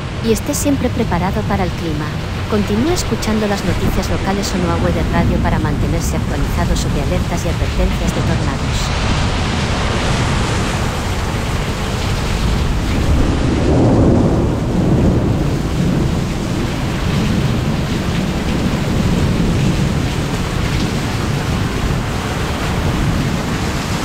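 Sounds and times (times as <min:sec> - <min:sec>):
heavy rain: 0:00.0 - 0:24.0
strong gusting wind: 0:00.0 - 0:24.0
wind buffeting microphone: 0:01.2 - 0:24.0.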